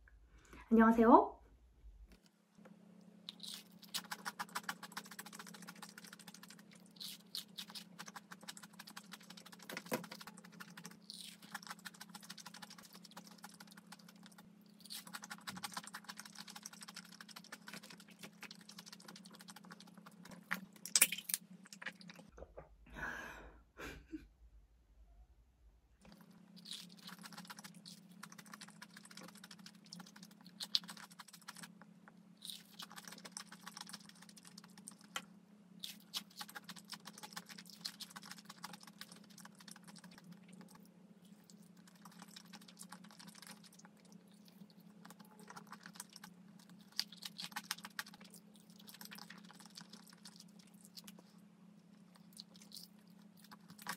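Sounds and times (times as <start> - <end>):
crunchy chewing: 3.3 - 22.3, 26.0 - 35.2, 35.8 - 53.9.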